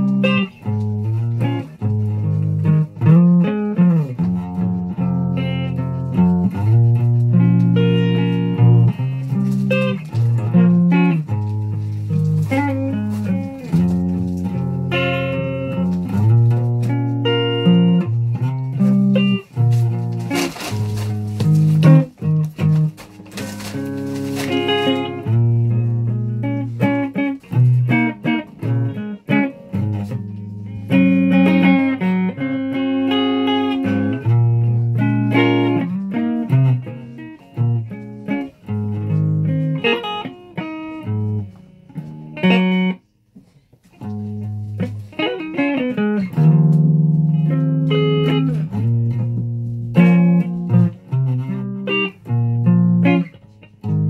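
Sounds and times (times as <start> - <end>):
plucked guitar music: 0.0 - 54.0.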